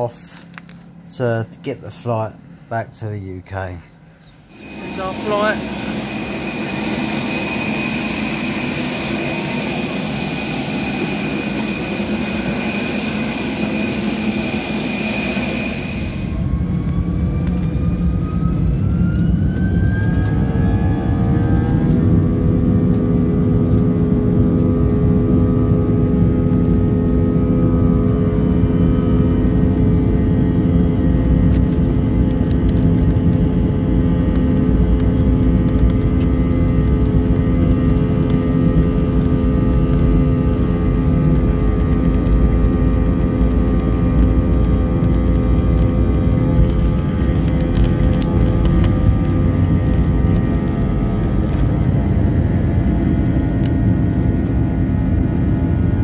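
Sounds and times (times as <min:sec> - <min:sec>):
deep rumble: 0:00.0 - 0:56.0
jet engines spooling up in cabin: 0:00.0 - 0:56.0
jet engines whining: 0:00.0 - 0:56.0.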